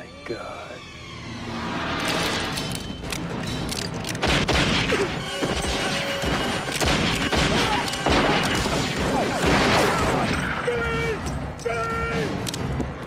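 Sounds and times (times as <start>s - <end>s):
film music: 0.0s - 13.0s.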